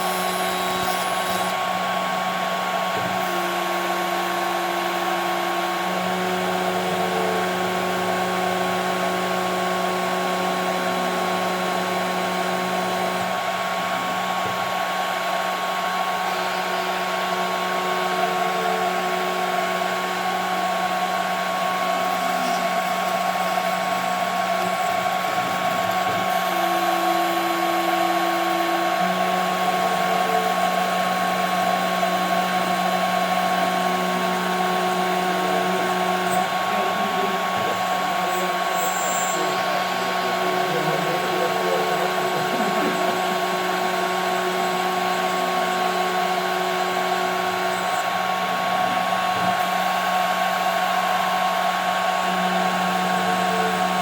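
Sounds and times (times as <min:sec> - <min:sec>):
low machine motion tones: 0:00.0 - 0:54.0
router spindle high whine: 0:00.0 - 0:54.0.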